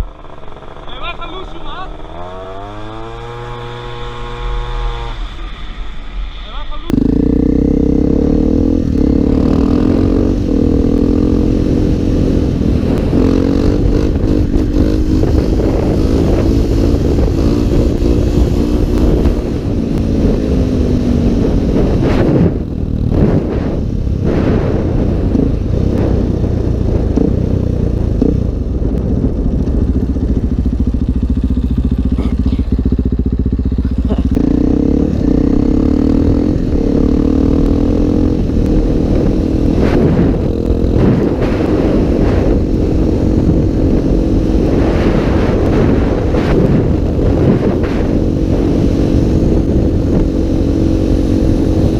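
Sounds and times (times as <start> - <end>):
motorcycle engine running: 0.0 - 5.6, 6.8 - 51.9.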